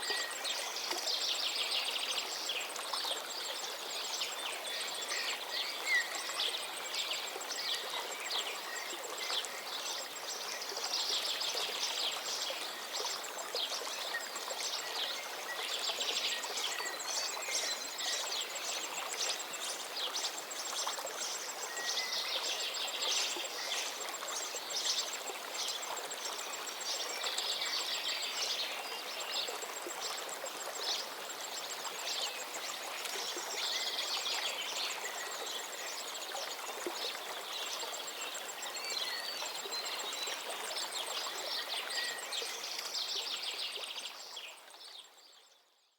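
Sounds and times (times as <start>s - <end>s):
river water flowing: 0.0s - 45.8s.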